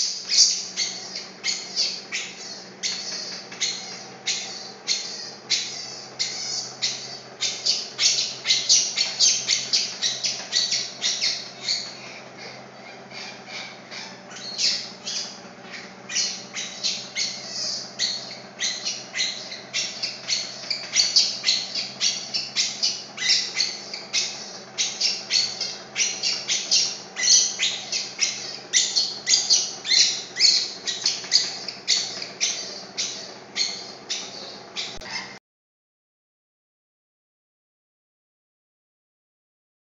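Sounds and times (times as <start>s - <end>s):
steady low hum: 0.0s - 35.4s
baby monkey squealing: 0.3s - 35.4s.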